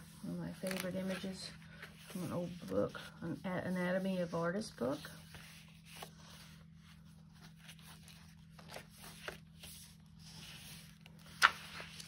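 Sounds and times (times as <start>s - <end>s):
pages turning: 0.0s - 3.2s, 5.0s - 12.0s
low steady hum: 0.0s - 12.0s.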